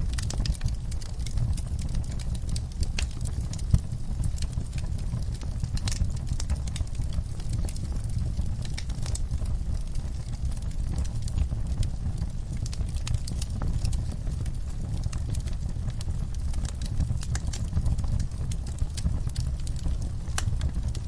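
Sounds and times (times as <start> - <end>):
low rumble of fire: 0.0 - 21.0
wood fire crackling and popping: 0.0 - 21.0.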